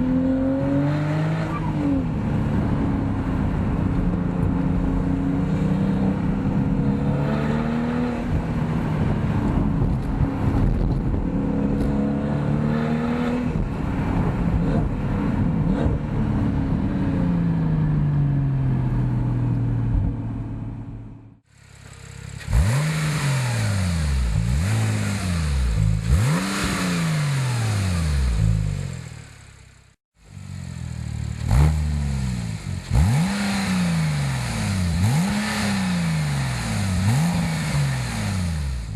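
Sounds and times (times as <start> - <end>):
sports car engine revving: 0.0 - 38.9.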